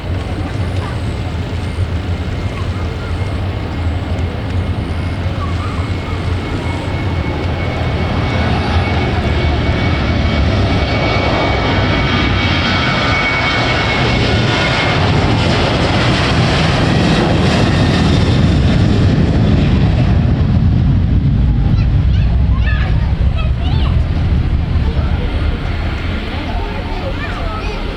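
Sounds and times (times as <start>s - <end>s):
airliner engines roaring: 0.0s - 27.9s.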